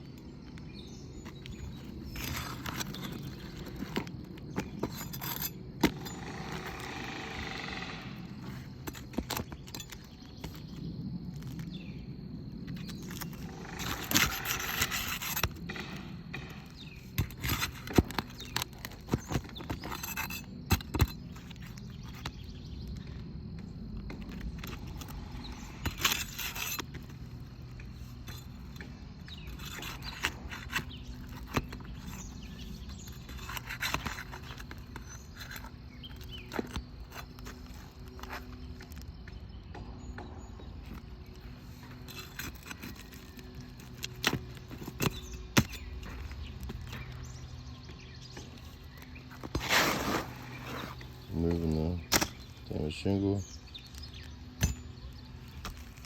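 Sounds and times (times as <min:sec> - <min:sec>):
shingles scraping rustles: 0:01.2 - 0:11.9, 0:12.6 - 0:39.2, 0:40.8 - 0:56.0.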